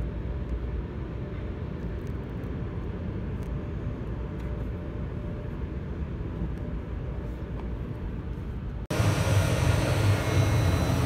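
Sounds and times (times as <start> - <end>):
faint constant hum: 0.0 - 11.0
muffled car wash machinery: 0.0 - 11.0.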